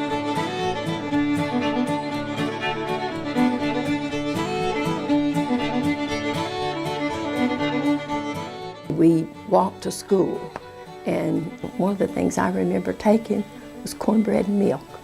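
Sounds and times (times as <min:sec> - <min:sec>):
fiddle-led music with beat: 0:00.0 - 0:15.0.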